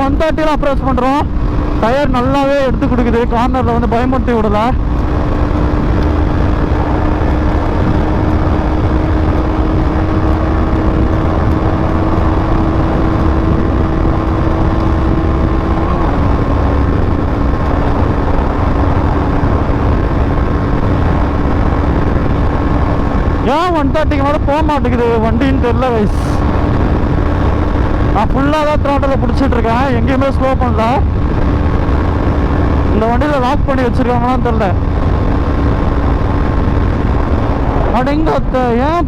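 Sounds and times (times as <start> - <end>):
motorcycle engine at full throttle: 0.0 - 39.0
wind rush on microphone: 0.0 - 39.0.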